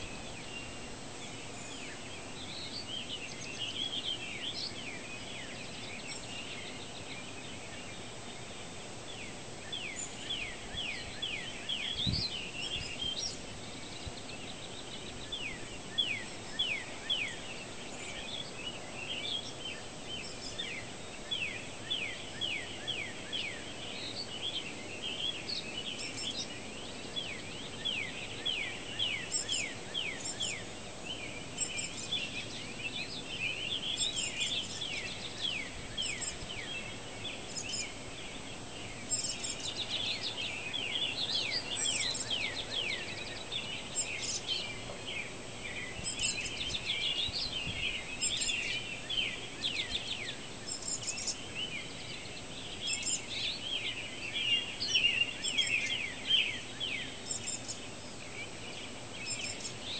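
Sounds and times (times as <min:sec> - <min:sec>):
faint steady hiss: 0:00.0 - 0:59.9
songbirds singing: 0:00.0 - 0:59.9.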